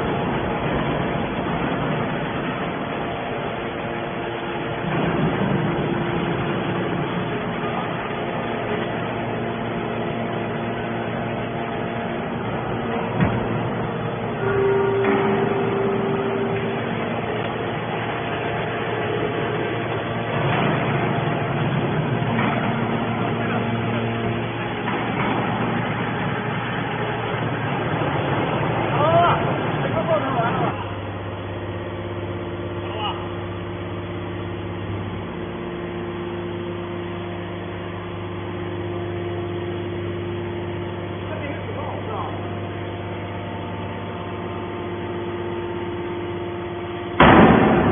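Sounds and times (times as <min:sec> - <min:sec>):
baler motor and hydraulic pump hum: 0:00.0 - 0:47.9.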